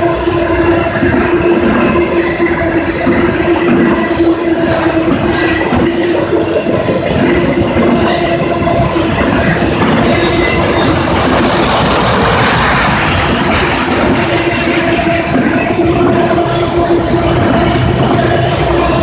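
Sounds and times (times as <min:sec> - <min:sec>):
freight cars rolling on rails: 0:00.0 - 0:19.0.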